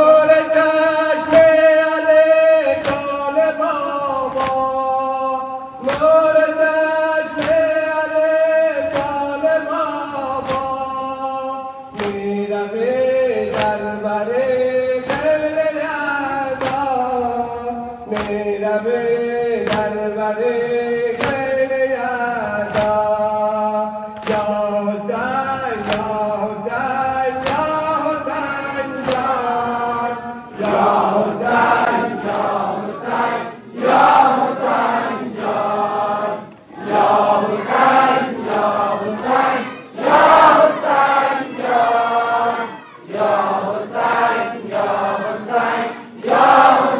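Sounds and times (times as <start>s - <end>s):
men singing a slow lament: 0.0s - 46.9s
mourners chanting in unison: 0.0s - 46.9s
chest-beating slaps: 1.2s - 12.4s, 13.4s - 14.0s, 15.0s - 15.6s, 16.4s - 18.7s, 19.6s - 20.1s, 21.0s - 23.5s, 24.1s - 29.8s, 30.6s - 35.6s, 36.4s - 42.2s, 43.0s - 46.9s.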